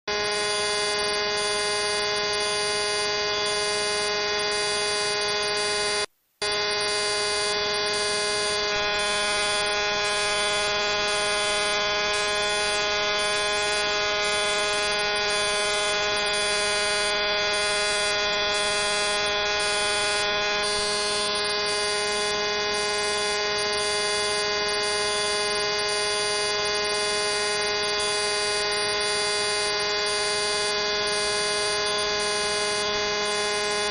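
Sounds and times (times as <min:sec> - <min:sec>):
electrical buzzing hum: 0:00.1 - 0:33.9.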